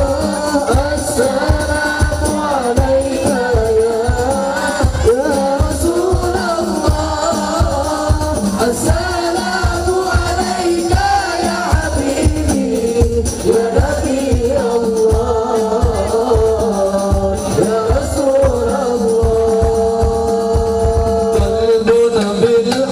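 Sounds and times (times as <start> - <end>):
drum beat: 0.0 - 22.9
voices singing devotional song: 0.0 - 22.9.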